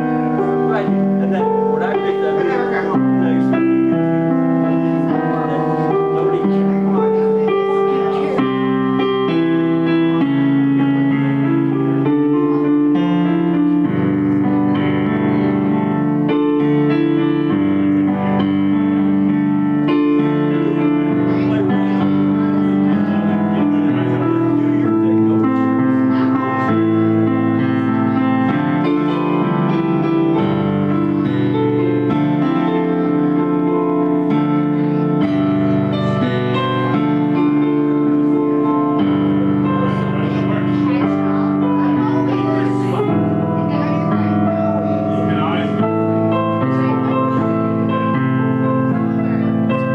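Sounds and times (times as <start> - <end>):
electric keyboard chords and melody: 0.0 - 49.9.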